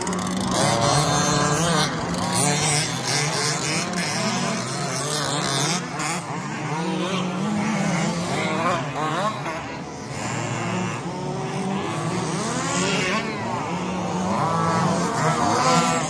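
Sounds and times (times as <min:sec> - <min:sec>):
rc buggy engines buzzing and revving: 0:00.0 - 0:16.0.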